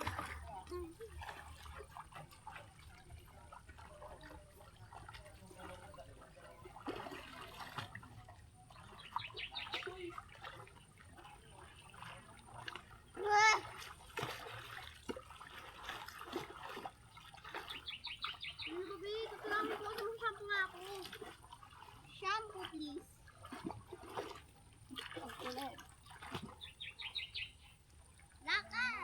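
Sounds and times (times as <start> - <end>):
river water splashing: 0.0 - 29.0.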